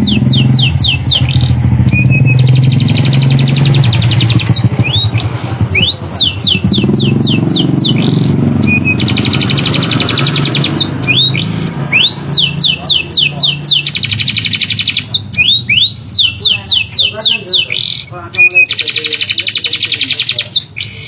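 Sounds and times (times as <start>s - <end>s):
canary singing: 0.0s - 21.0s
fast rattling trills: 0.0s - 21.0s.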